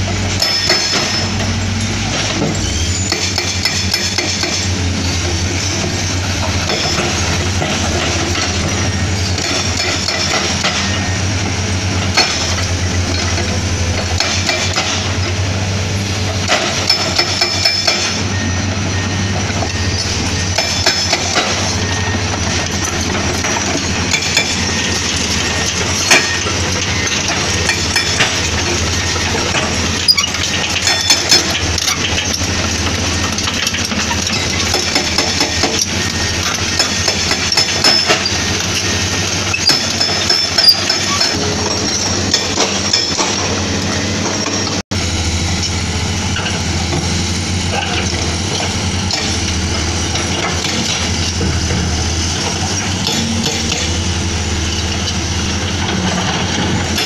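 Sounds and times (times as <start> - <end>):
diesel excavator engines: 0.0 - 57.0
hydraulic breaker pounding rock: 0.0 - 57.0.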